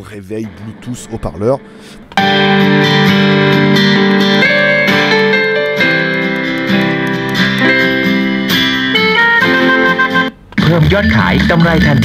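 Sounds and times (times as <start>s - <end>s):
guitar music from radio speaker: 2.1s - 12.0s.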